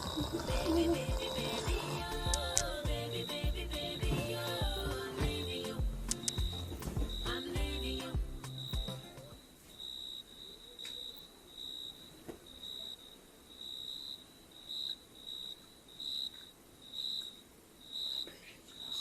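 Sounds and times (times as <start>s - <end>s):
cricket chirping: 0.0s - 5.0s, 6.1s - 19.0s.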